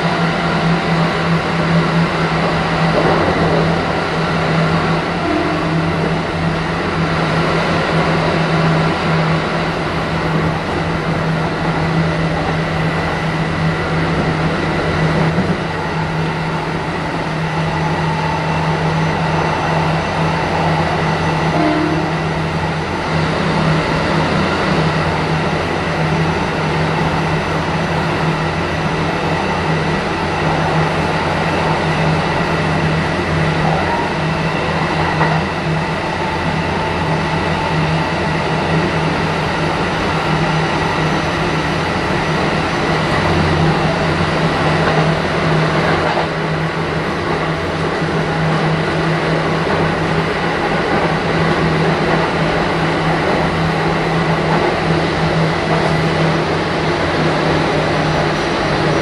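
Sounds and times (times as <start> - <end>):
train constant whine: 0.0 - 59.0
train wheels rumbling: 0.0 - 59.0.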